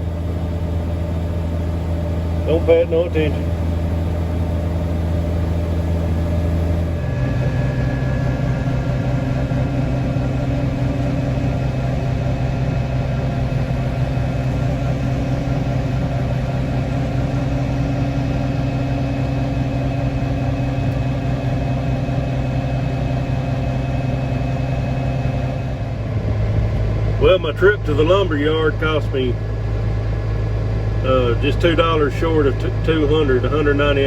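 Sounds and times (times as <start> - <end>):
diesel engine running steadily: 0.0 - 34.0.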